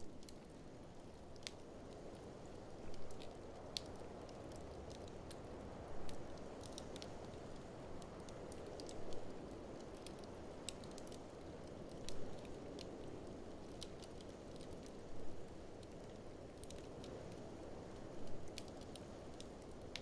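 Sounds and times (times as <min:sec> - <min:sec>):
fire popping: 0:00.0 - 0:20.0
wood fire crackling: 0:00.0 - 0:20.0.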